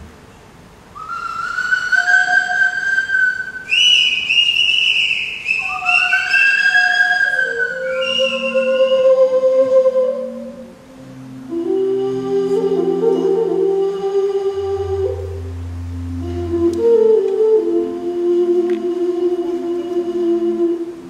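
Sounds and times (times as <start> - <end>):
low held tones: 0.0 - 21.0
small flute sliding notes: 0.9 - 21.0.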